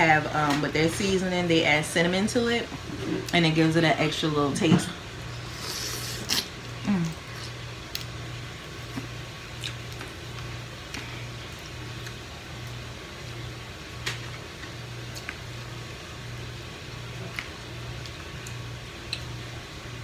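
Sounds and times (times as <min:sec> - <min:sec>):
low pulsing mechanical hum: 0:00.0 - 0:20.0.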